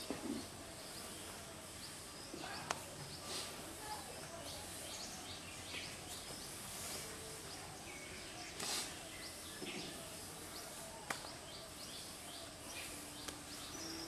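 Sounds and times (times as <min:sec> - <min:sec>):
birds chirping: 0:00.0 - 0:14.0
steady high hiss: 0:00.0 - 0:14.0.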